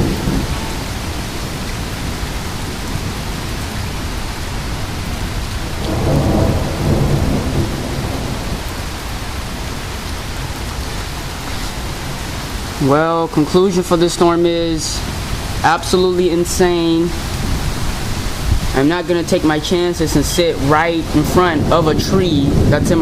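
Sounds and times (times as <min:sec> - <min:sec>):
low thunder rumble: 0:00.0 - 0:12.9, 0:14.4 - 0:23.0
heavy rain pouring: 0:00.0 - 0:23.0.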